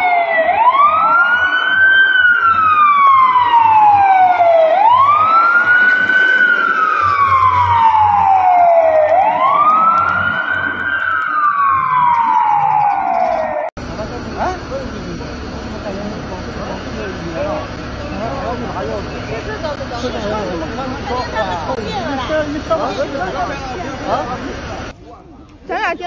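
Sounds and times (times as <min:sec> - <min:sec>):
emergency siren wailing: 0:00.0 - 0:24.9.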